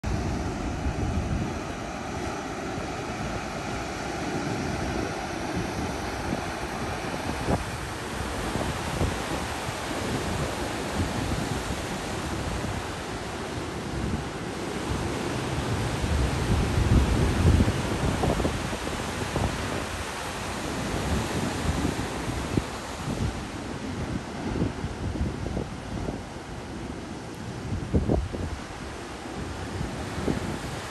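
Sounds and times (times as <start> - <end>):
ocean surf breaking: 0.0 - 30.9
wind buffeting microphone: 0.0 - 30.9.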